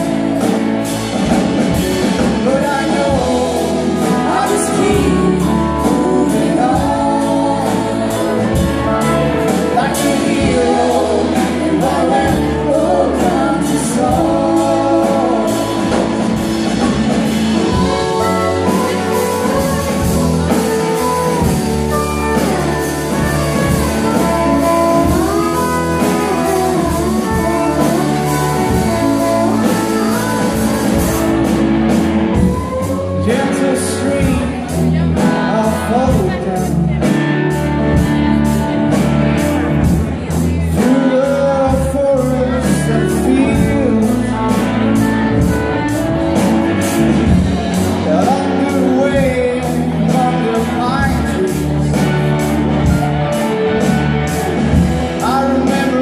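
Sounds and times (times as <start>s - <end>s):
live band with vocals: 0.0s - 56.0s.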